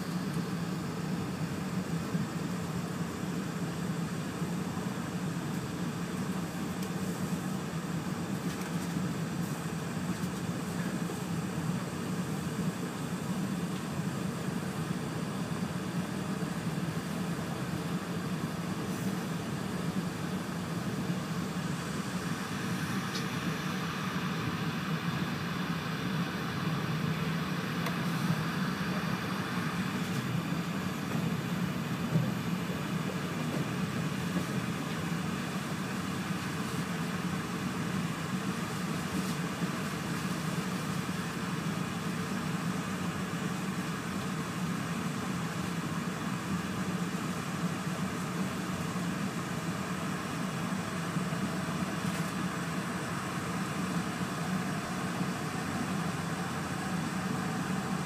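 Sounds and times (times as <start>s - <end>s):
train interior rumble and hiss: 0.0s - 58.0s.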